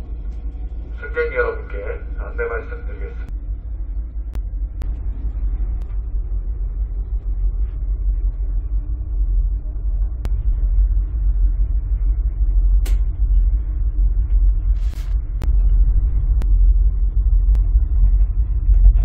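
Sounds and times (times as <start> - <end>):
faint steady hum: 0.0 - 19.0
ferry engines droning: 0.0 - 19.0.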